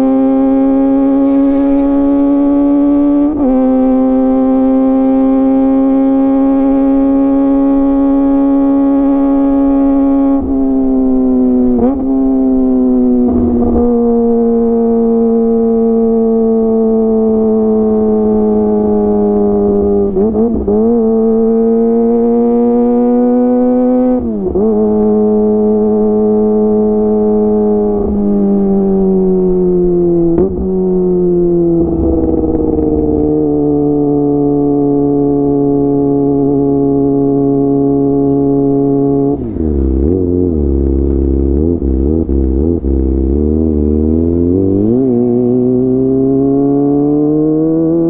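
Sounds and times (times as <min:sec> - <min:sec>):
motorcycle engine at high revs: 0:00.0 - 0:48.0.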